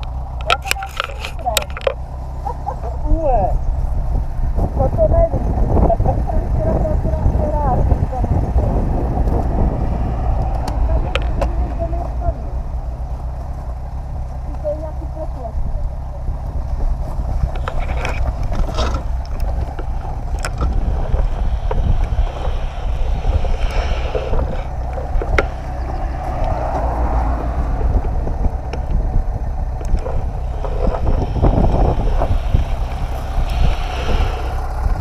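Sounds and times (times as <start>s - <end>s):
motorcycle engine idling: 0.0s - 35.0s
wind buffeting microphone: 0.0s - 35.0s.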